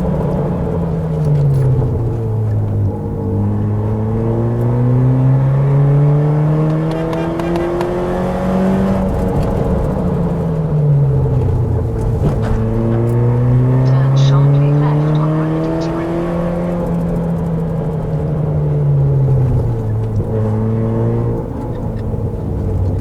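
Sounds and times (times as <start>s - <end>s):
car engine revving in gear: 0.0s - 23.0s.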